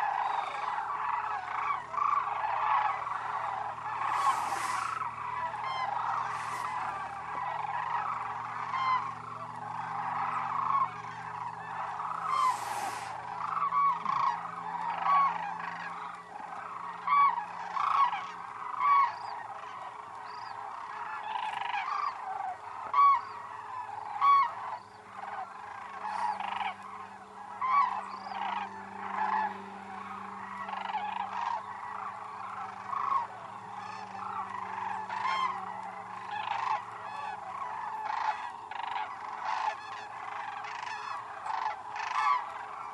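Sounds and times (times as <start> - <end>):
cranes calling: 0.0 - 42.9.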